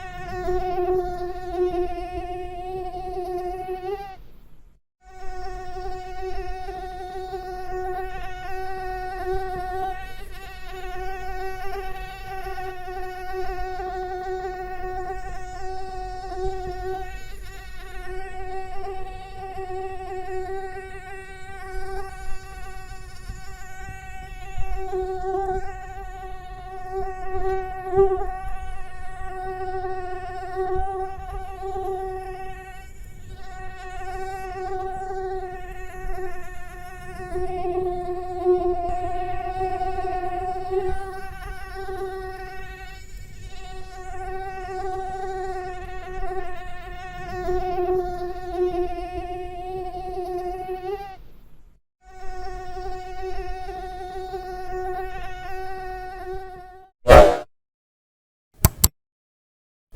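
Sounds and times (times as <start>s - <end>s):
mosquito buzzing: 0.0s - 4.2s, 5.0s - 51.2s, 52.1s - 57.4s.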